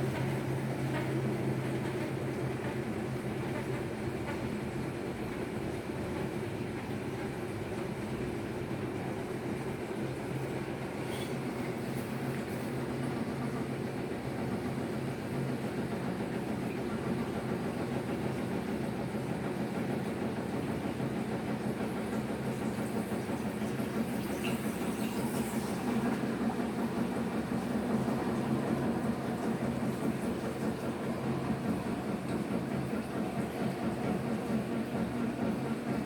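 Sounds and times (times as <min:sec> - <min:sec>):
washing machine hum and whir: 0:00.0 - 0:36.0.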